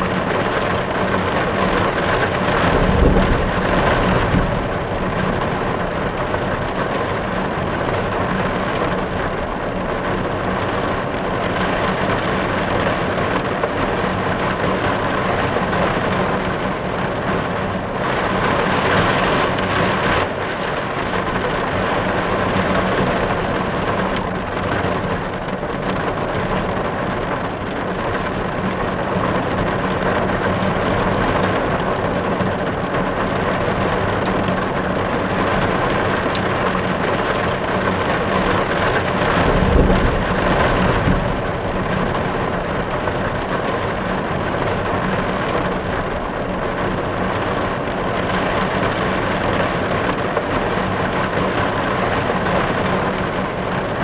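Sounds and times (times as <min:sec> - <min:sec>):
rain drumming on a car roof: 0:00.0 - 0:54.0.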